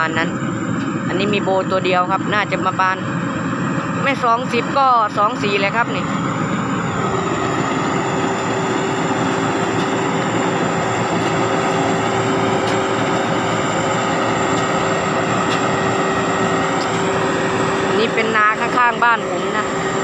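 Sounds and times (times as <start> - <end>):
diesel engine drone: 0.0 - 20.0
turbo whine: 0.0 - 20.0.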